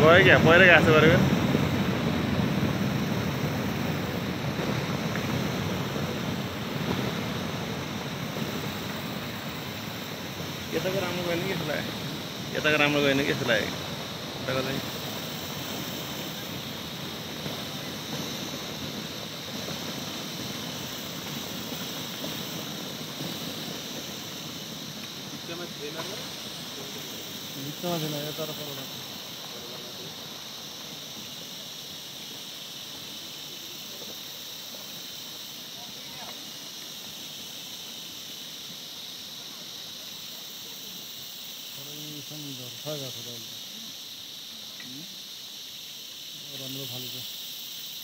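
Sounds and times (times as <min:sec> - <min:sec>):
landslide rumble: 0:00.0 - 0:43.6.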